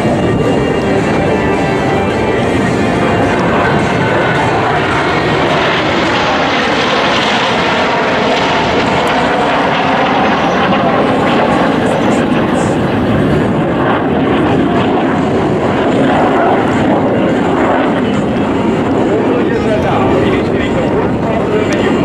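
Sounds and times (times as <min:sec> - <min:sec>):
jets flying overhead: 0:00.0 - 0:22.0.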